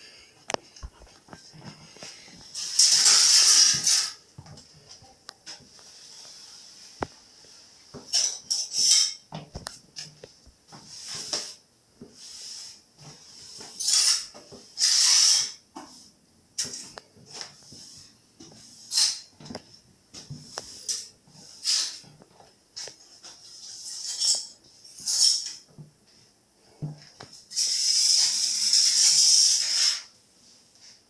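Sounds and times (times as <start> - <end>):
broom sweeping hard floor: 0.9 - 4.2, 5.5 - 9.1, 10.0 - 31.0.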